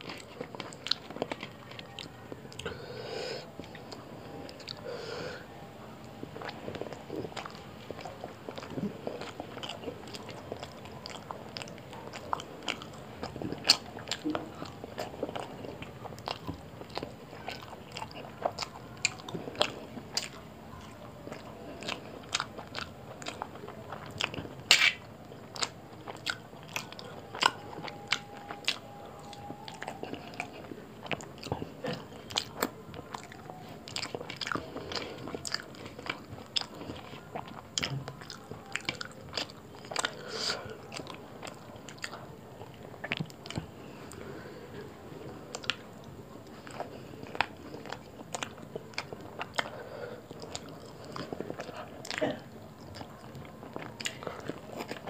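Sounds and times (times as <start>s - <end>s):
chewing and wet mouth clicks: 6.4s - 40.2s, 40.9s - 44.2s, 46.4s - 55.0s.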